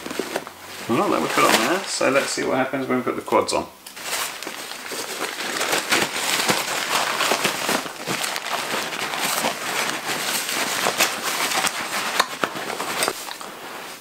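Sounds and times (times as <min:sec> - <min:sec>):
bag fabric rustling: 0:00.0 - 0:02.6, 0:03.9 - 0:14.0.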